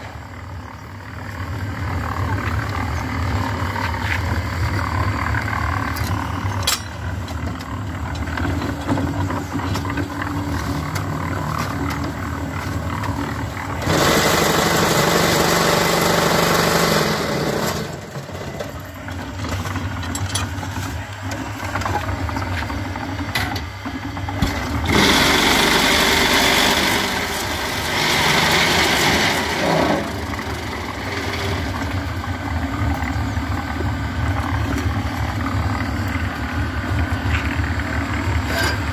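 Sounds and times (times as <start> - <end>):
concrete mixer humming: 0.0 - 38.9.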